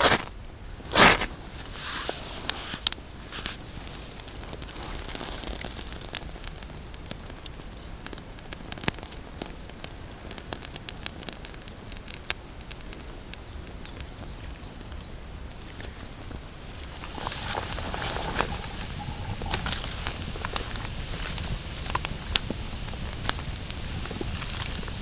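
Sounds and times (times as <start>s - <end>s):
raindrops ticking in a forest: 3.7s - 25.0s.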